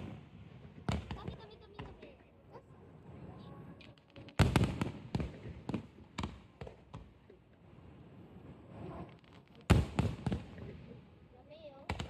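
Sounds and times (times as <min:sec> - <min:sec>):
fireworks bangs: 0:00.0 - 0:02.2, 0:02.9 - 0:12.0.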